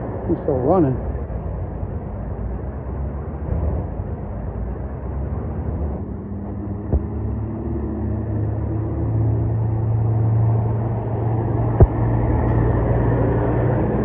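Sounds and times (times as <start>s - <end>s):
deep engine drone: 0.0s - 14.0s
truck engines idling: 0.0s - 14.0s.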